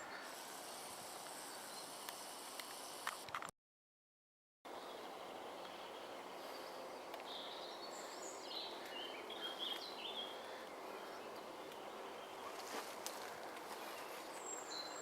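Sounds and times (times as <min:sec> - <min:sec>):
small birds chirping: 0:00.0 - 0:03.0, 0:04.7 - 0:15.0
outdoor background hiss: 0:00.0 - 0:03.4, 0:04.7 - 0:15.0.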